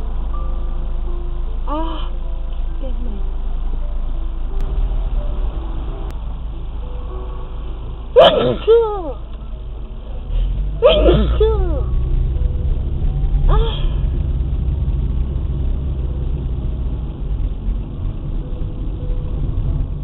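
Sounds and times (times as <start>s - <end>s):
car cabin rumble while driving: 2.4s - 20.0s.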